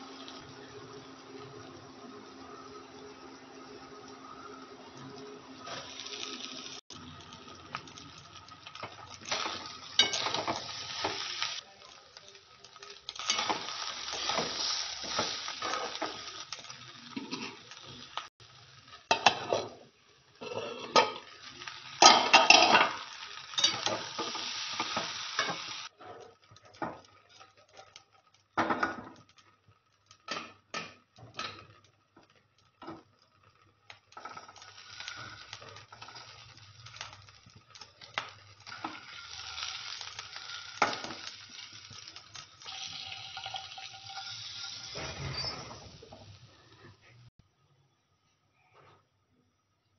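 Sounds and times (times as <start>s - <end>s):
frying sizzle: 0.0s - 47.7s.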